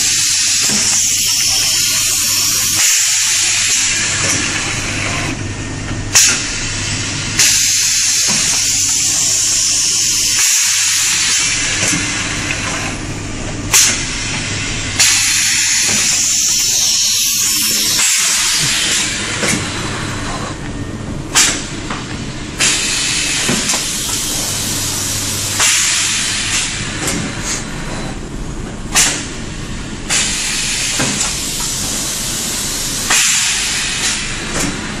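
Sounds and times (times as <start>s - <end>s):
loud air hissing: 0.0s - 5.4s, 6.1s - 20.5s, 22.6s - 27.8s, 29.0s - 34.5s.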